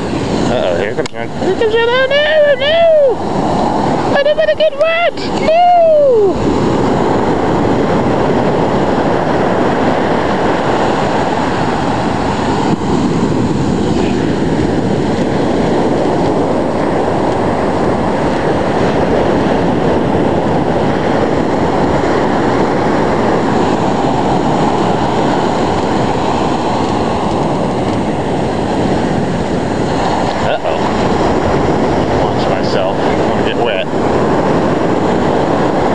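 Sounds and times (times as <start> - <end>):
ocean surf breaking: 0.0 - 35.9.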